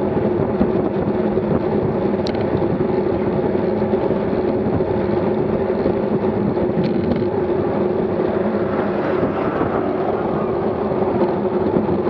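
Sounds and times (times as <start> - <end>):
bike road noise: 0.0 - 12.0
wind on microphone: 0.0 - 12.0.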